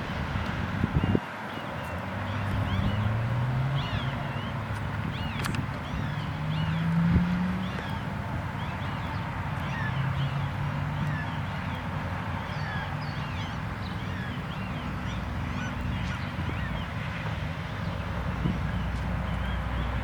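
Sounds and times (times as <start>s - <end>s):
small birds chirping: 0.9s - 20.0s.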